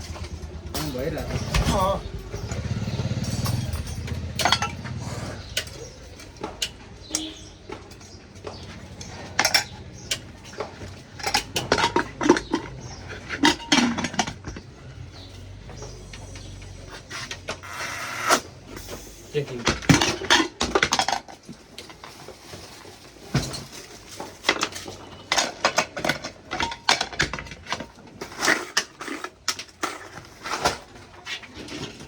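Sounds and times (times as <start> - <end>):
metal objects clinking: 0.0 - 17.8, 19.6 - 32.0.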